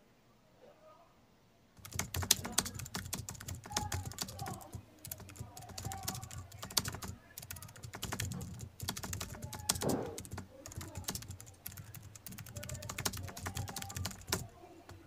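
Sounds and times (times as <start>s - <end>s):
calculator keys clicking: 1.8s - 15.0s.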